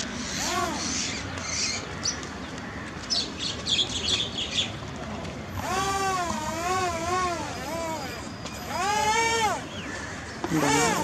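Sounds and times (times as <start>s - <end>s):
birds chirping: 0.0s - 5.9s, 7.4s - 11.0s.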